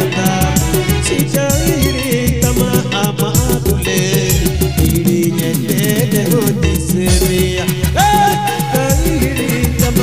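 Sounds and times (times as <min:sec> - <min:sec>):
deep bass hits: 0:00.0 - 0:10.0
fast high percussion: 0:00.0 - 0:10.0.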